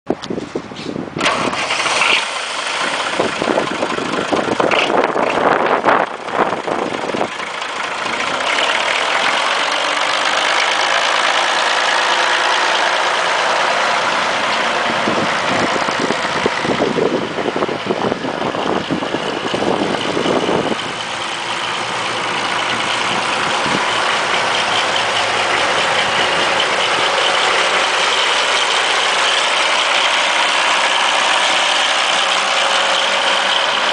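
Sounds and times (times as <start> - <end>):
tractor diesel engine starting and idling: 0.1 - 33.9.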